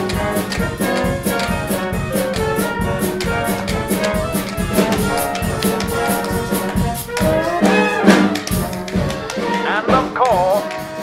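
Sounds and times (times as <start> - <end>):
drum kit beat: 0.0 - 11.0
upbeat brass band music: 0.0 - 11.0.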